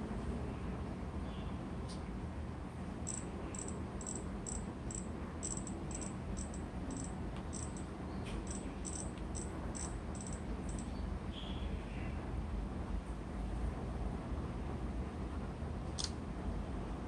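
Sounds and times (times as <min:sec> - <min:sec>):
low room noise: 0:00.0 - 0:17.0.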